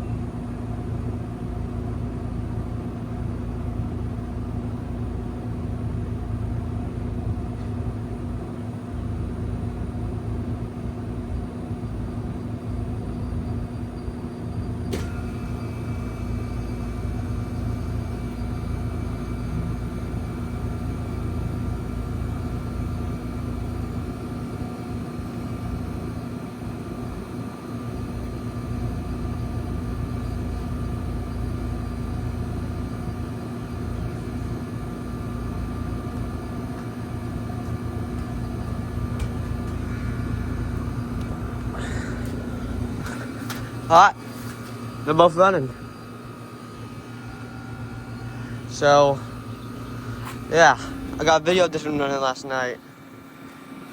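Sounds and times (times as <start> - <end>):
heat pump humming: 0.0 - 53.9
high steady whine: 9.2 - 53.9.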